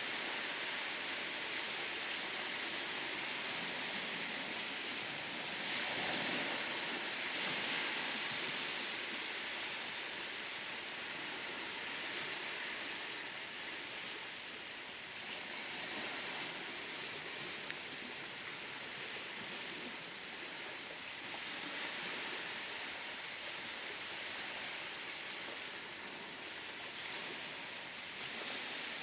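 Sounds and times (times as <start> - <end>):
sea waves hissing: 0.0 - 29.0.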